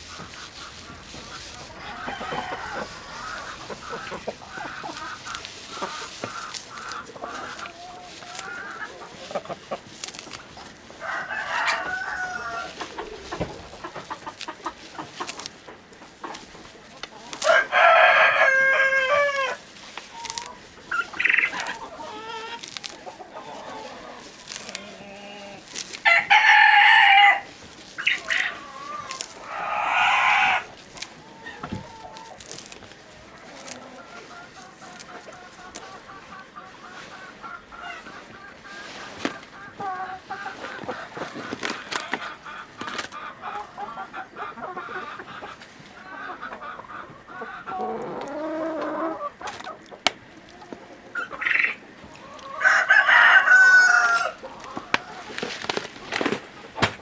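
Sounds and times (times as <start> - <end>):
chickens clucking: 0.0 - 57.0
chickens loud drawn-out calls: 0.0 - 57.0.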